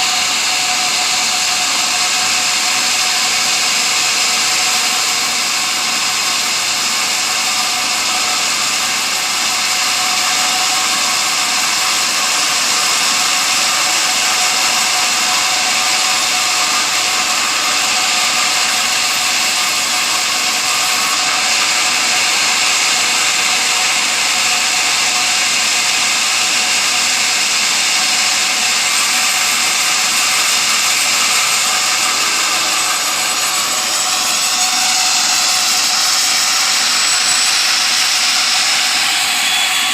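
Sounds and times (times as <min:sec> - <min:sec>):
sawmill saw high whine: 0:00.0 - 0:39.9.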